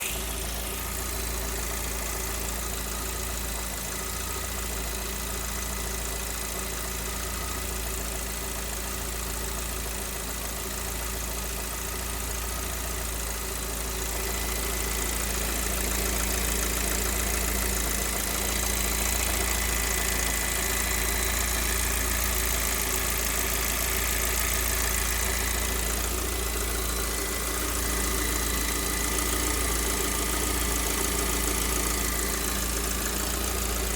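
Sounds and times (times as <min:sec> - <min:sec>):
engine idling with knock: 0:00.0 - 0:33.9.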